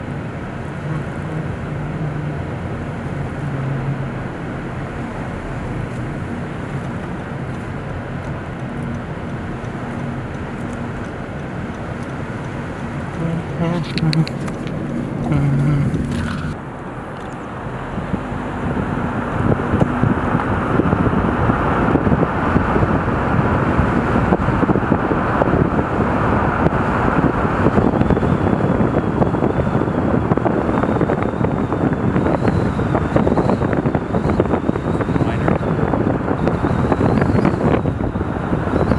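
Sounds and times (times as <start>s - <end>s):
car road noise: 0.0s - 38.9s
wind rushing over microphone: 0.0s - 38.9s.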